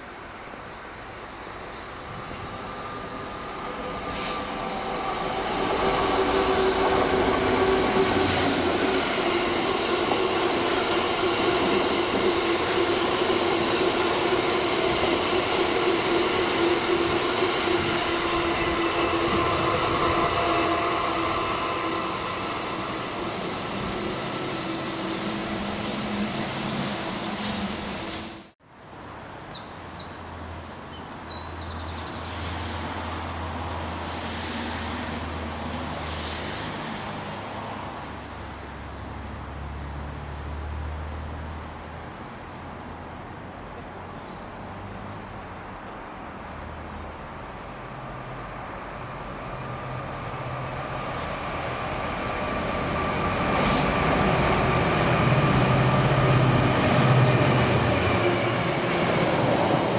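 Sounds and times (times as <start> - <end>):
diesel locomotive passing: 0.0 - 28.6, 31.5 - 59.9
distant locomotive hum: 0.0 - 28.6, 31.6 - 59.9.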